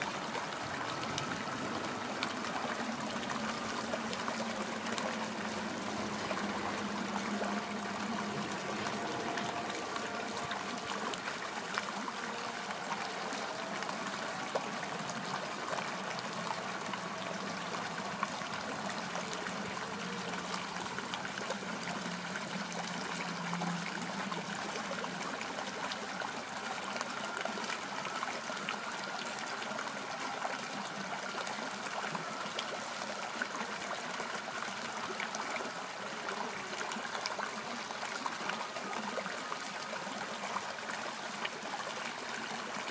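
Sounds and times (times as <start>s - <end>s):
water trickling and splashing: 0.0s - 42.9s.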